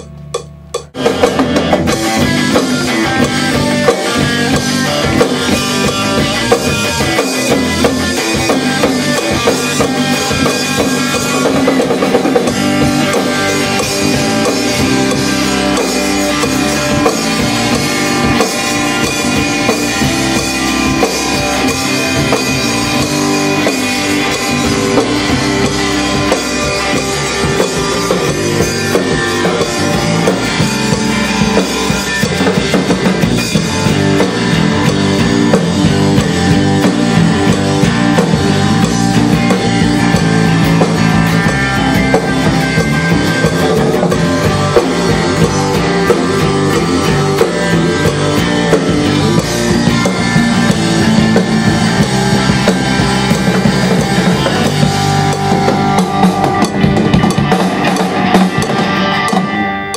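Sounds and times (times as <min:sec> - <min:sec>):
drum kit beat: 0:00.0 - 0:59.9
electric guitar: 0:00.0 - 0:59.9
rock band playing: 0:00.0 - 0:59.9.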